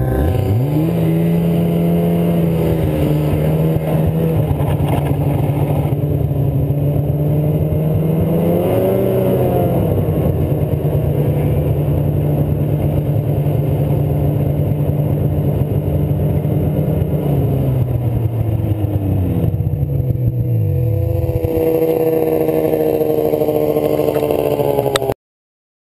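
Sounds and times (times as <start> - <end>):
snowmobile engine: 0.0 - 25.2.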